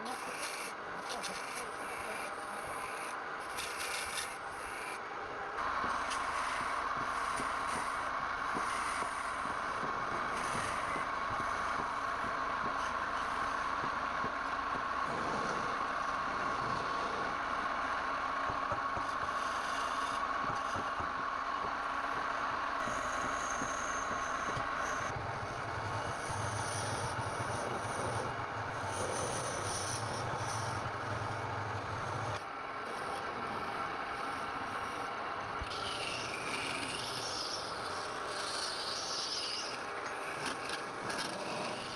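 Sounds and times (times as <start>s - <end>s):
steady whine: 0.0s - 41.9s
tool scraping spinning wood: 0.0s - 41.9s
woodturning lathe running: 0.0s - 41.9s.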